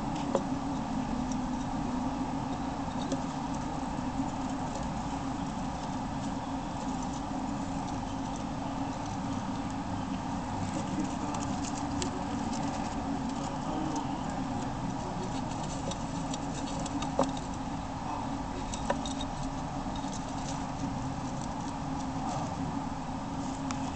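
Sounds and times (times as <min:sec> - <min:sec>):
hamsters scratching and rustling: 0:00.0 - 0:23.9
steady background noise: 0:00.0 - 0:23.9.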